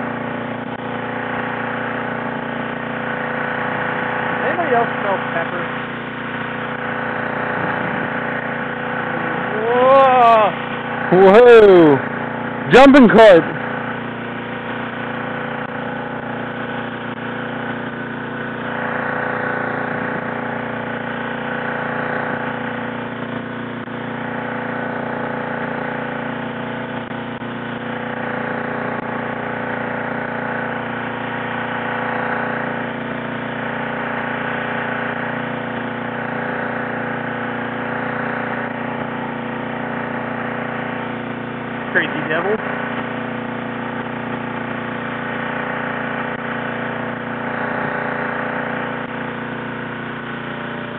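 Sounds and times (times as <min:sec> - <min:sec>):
small engine running steadily: 0:00.0 - 0:50.9.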